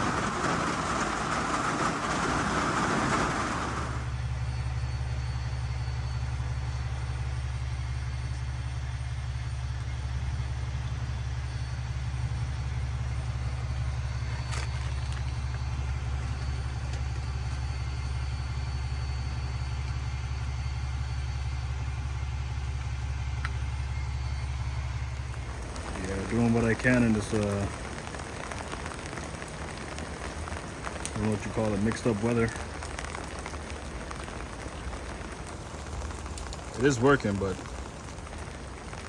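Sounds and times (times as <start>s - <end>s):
rain falling: 0.0s - 23.8s, 24.4s - 39.0s
truck diesel engine idling: 0.0s - 39.0s.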